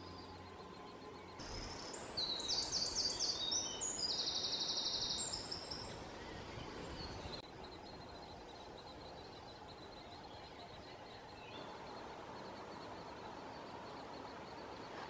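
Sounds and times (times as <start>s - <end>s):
faint high bird calls: 0.0s - 15.0s
songbird singing: 0.0s - 15.0s.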